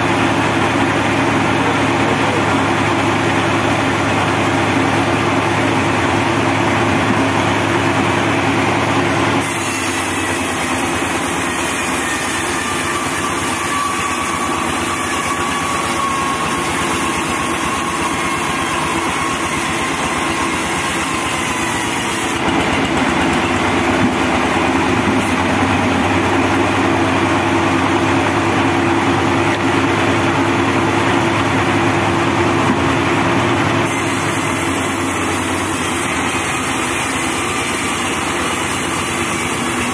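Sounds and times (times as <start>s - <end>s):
sawmill engine and blade humming: 0.0s - 39.9s.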